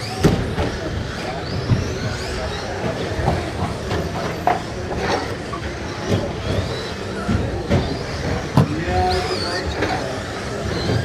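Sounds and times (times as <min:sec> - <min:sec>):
rc truck motors and tyres clattering: 0:00.0 - 0:11.0.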